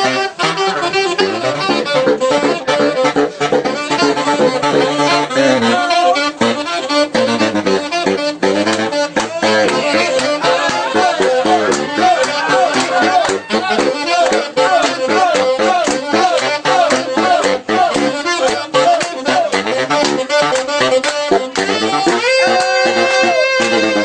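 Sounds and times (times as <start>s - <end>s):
saxophone playing jazz: 0.0s - 24.0s.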